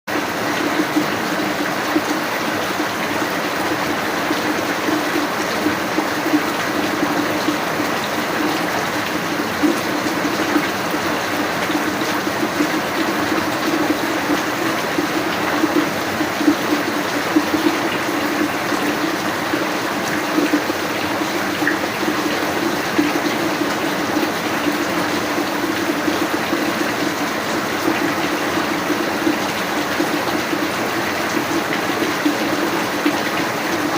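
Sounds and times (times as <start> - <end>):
rain falling: 0.1 - 33.9.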